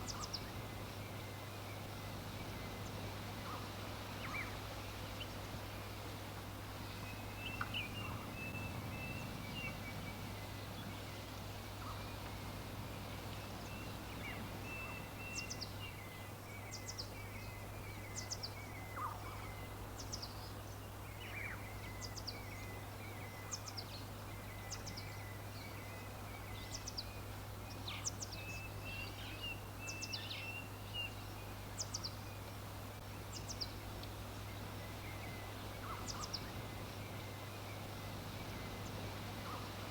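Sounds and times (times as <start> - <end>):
birds twittering: 0.0 - 5.4, 6.8 - 39.9
background hiss and hum: 0.0 - 39.9.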